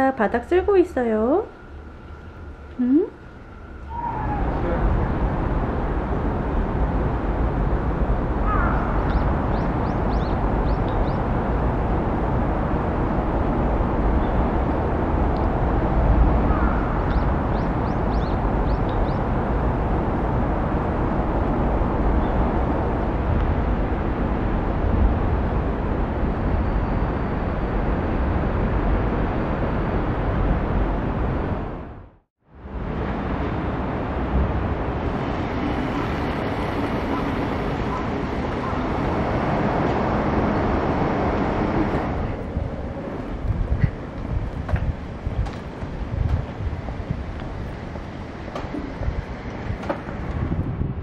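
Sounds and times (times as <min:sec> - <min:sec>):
distant traffic rumble: 0:00.0 - 0:51.0.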